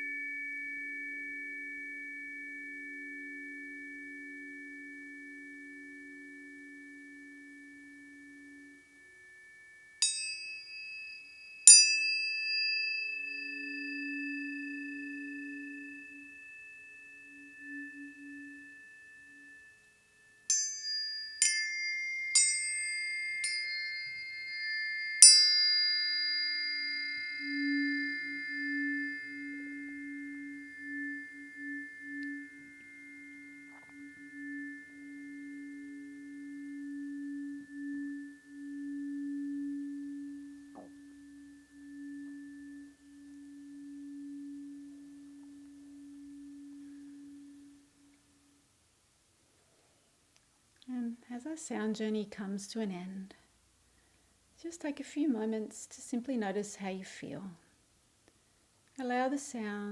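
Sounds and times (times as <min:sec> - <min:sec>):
tuning forks ringing: 0:00.0 - 0:48.8.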